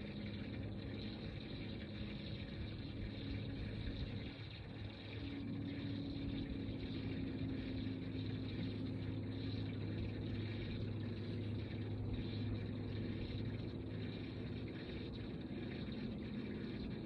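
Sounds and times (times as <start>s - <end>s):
electric motor humming and whining: 0.0s - 17.0s.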